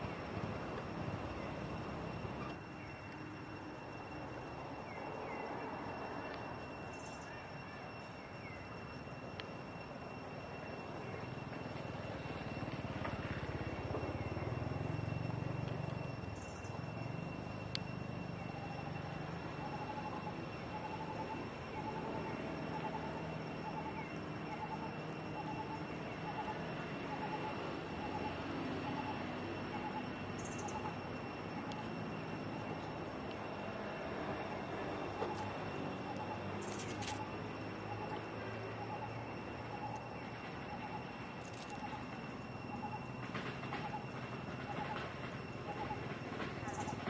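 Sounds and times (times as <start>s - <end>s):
steady high whine: 0.0s - 47.0s.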